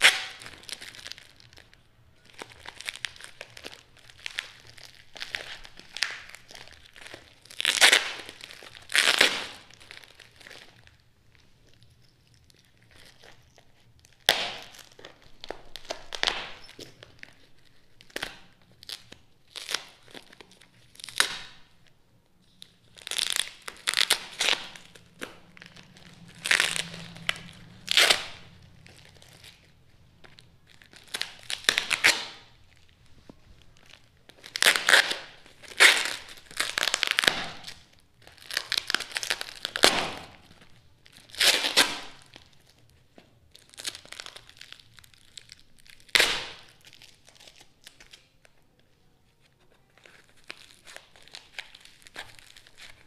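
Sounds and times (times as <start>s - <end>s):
packing tape ripping: 0.0s - 1.7s, 2.3s - 11.0s, 11.6s - 21.7s, 22.5s - 33.0s, 33.6s - 42.8s, 43.5s - 48.6s, 49.7s - 53.0s
plastic wrapping crinkling: 0.0s - 53.0s.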